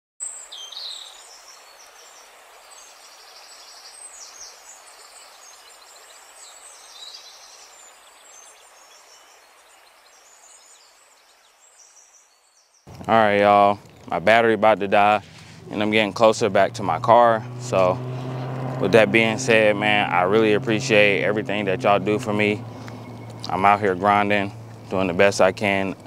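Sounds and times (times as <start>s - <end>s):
birds chirping and calling: 0.4s - 26.0s.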